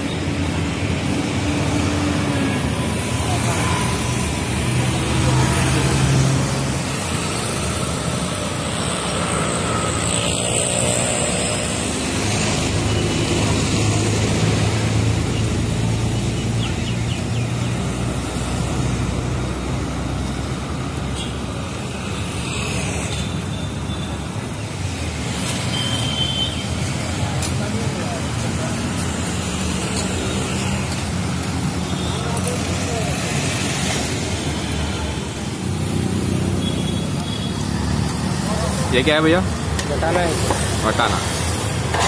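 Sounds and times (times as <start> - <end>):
road traffic and engine noise: 0.0 - 42.0.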